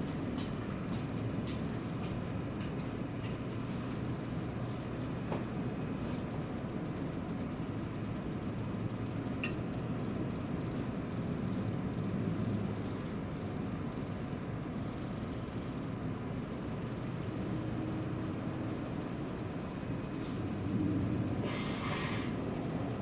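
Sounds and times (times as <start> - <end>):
train interior low rumble: 0.0 - 23.0.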